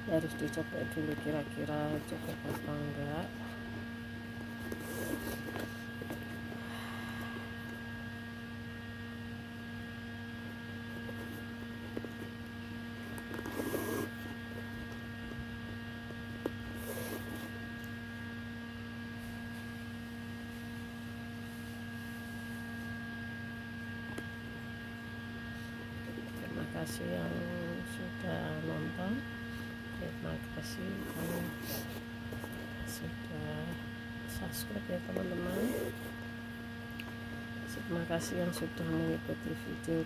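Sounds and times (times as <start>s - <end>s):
electrical hum: 0.0s - 40.0s.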